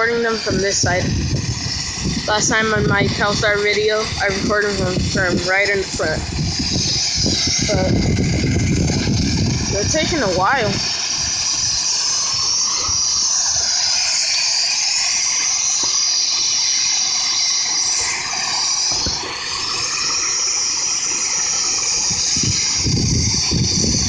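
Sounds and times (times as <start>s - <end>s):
helicopter turbine and rotor running: 0.0s - 24.0s.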